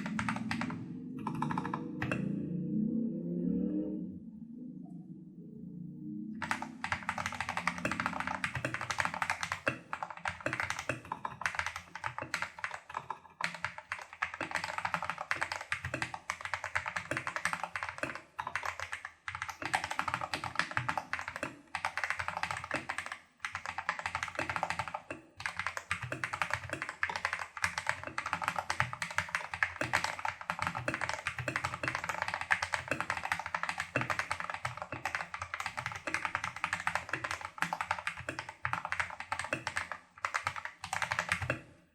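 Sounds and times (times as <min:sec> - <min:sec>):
mechanical keyboard typing: 0:00.0 - 0:02.3, 0:06.4 - 0:41.7.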